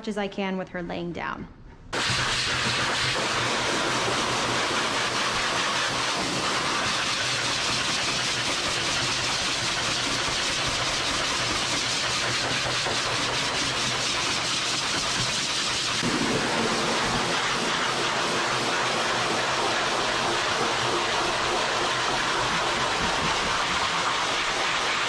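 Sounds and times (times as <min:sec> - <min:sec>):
dryer air rushing: 0:02.0 - 0:25.0.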